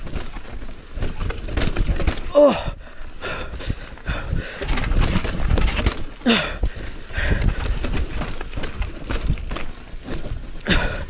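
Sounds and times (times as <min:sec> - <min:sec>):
bike knocking and clattering: 0:00.0 - 0:11.0
tyres rumbling over dirt: 0:00.0 - 0:11.0.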